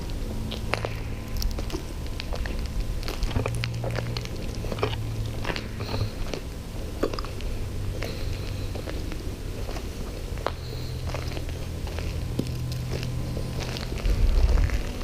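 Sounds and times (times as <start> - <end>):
footsteps crunching over debris: 0.0 - 15.0
low steady hum: 0.0 - 15.0.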